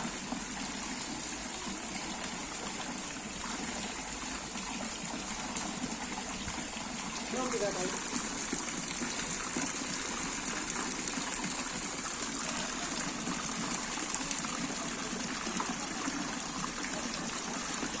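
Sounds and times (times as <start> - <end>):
water pouring into a pool: 0.0 - 18.0.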